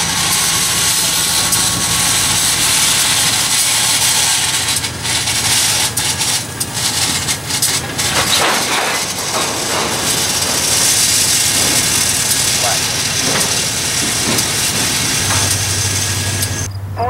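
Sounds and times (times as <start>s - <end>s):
hiss: 0.0s - 16.7s
diesel locomotives rumbling: 0.0s - 17.0s
sharp knocks: 0.1s - 16.7s.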